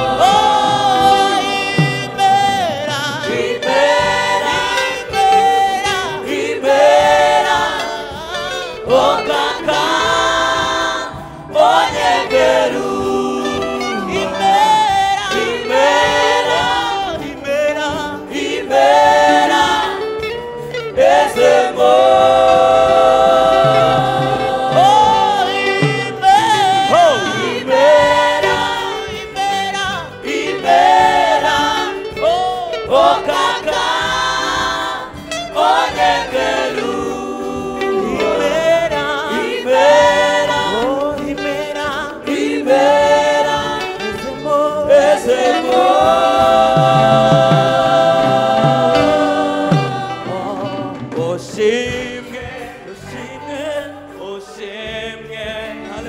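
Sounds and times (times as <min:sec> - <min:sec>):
voices singing in harmony: 0:00.0 - 0:56.0.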